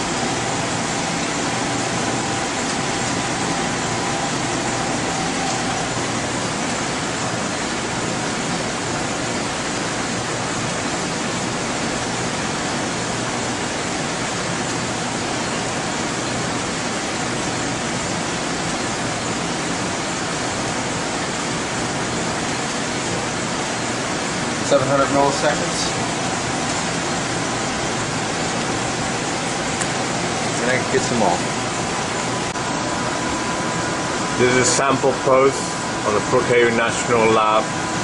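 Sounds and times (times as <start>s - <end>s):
cooling fans rushing: 0.0s - 38.0s.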